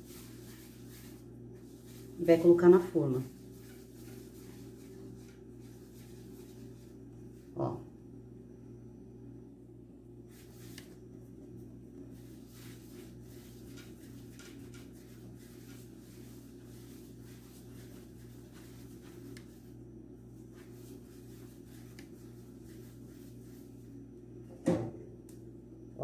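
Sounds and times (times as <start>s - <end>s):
hands rolling dough: 0.0s - 7.6s, 10.3s - 23.9s
steady low hum: 0.0s - 26.0s.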